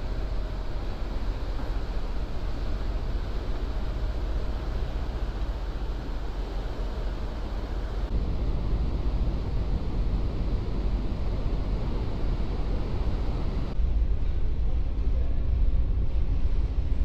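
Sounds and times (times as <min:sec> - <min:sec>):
propellers churning water: 0:00.0 - 0:13.8
ship engines rumbling: 0:00.0 - 0:13.8.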